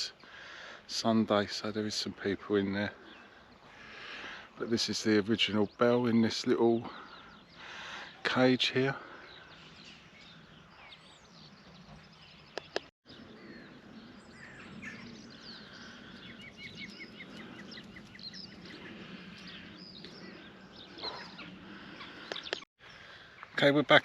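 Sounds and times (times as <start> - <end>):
songbirds calling and singing: 0.0 - 24.0.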